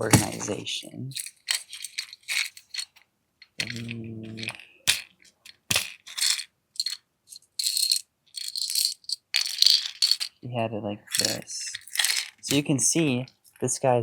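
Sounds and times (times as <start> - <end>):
small metal parts clinking: 0.0 - 10.4, 11.1 - 13.7.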